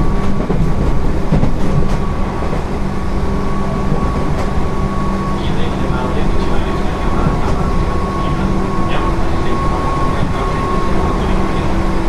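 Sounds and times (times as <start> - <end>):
train wheels rumbling on rail: 0.0 - 12.0
steady high tone: 2.0 - 12.0.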